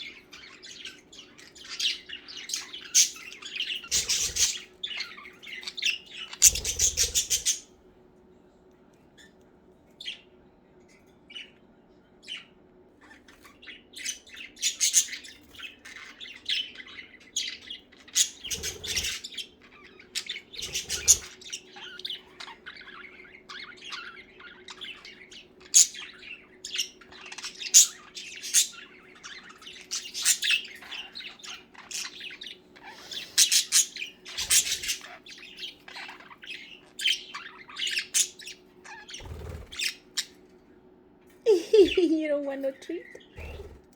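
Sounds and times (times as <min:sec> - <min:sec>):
budgerigars chirping: 0:00.0 - 0:07.7, 0:12.3 - 0:40.4
faint steady hum: 0:00.0 - 0:43.9.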